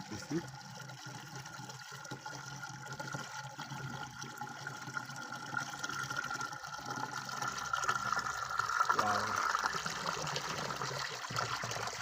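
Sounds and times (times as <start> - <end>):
water pouring into container: 0.0 - 12.0.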